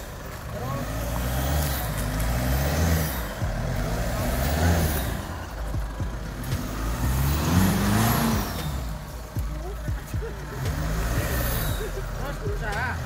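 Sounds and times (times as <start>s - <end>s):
suv engine revving: 0.0s - 13.0s.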